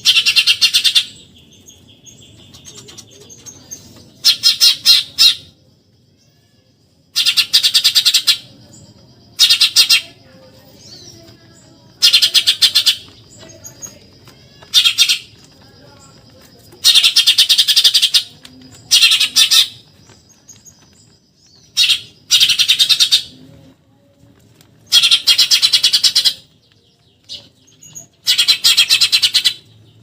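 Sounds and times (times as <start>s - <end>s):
sparrow chattering: 0.0s - 5.6s, 7.1s - 8.7s, 9.3s - 23.4s, 24.8s - 26.6s, 27.2s - 29.8s.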